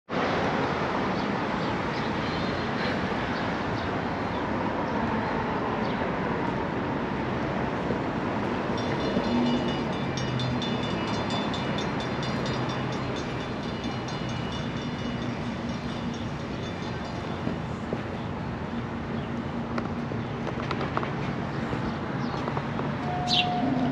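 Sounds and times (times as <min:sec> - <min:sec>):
passing traffic rumble: 0:00.1 - 0:23.9
train going by: 0:00.3 - 0:23.9.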